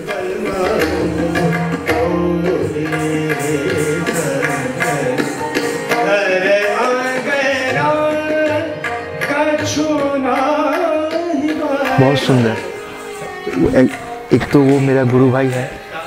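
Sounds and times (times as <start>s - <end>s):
tabla strokes: 0.0s - 15.9s
sarangi melody: 0.0s - 16.0s.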